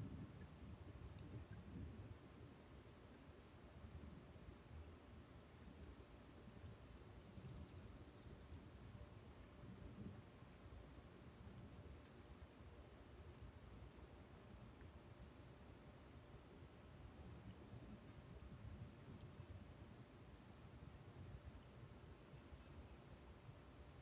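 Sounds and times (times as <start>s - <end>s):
insect chirping: 0.0s - 18.6s, 19.3s - 24.0s.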